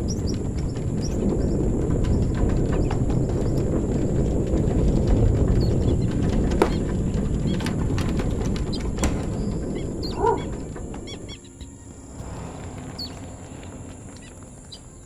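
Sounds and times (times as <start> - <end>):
low noisy rush: 0.0 - 15.0.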